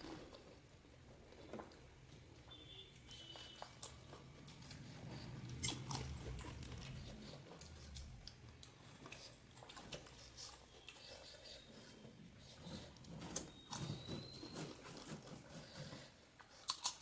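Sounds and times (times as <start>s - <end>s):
crunchy food being chewed: 0.0s - 17.0s.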